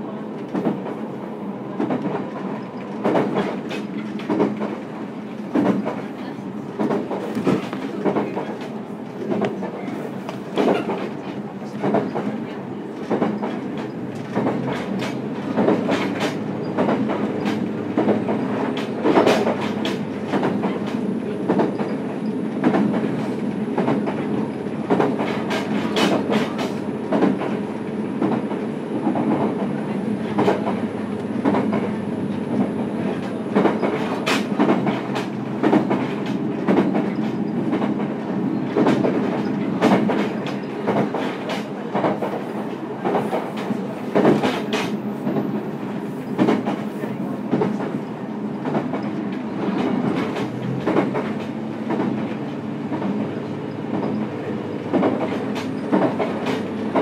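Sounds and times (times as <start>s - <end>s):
railcar running drone: 0.0s - 57.0s
wheels clacking over rail joints: 1.7s - 6.2s, 6.8s - 45.6s, 46.2s - 57.0s.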